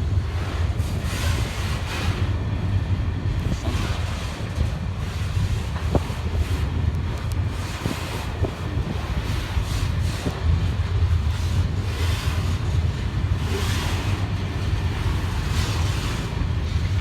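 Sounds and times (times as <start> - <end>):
freight train rumbling past: 0.0 - 17.0
wind on microphone: 0.0 - 17.0.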